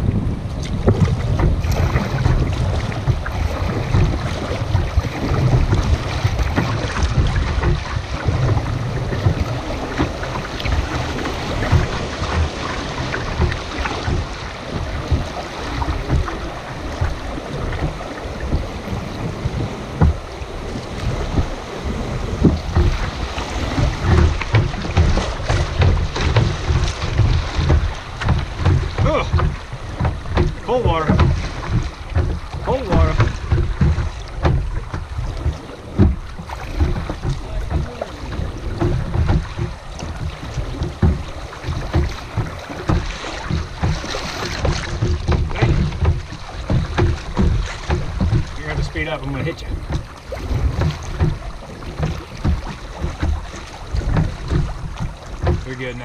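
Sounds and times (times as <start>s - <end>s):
river water rushing against kayak: 0.0s - 56.0s
wind buffeting microphone: 0.0s - 56.0s.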